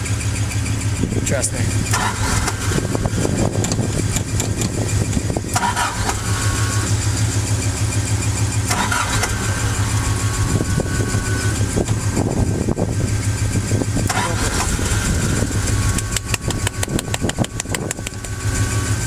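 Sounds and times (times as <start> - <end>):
car engine fast idle: 0.0 - 19.0.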